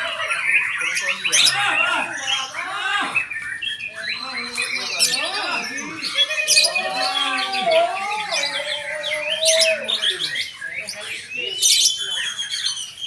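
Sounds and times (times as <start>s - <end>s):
sharp loud bird calls: 0.0s - 13.0s
songbirds singing: 0.0s - 13.0s.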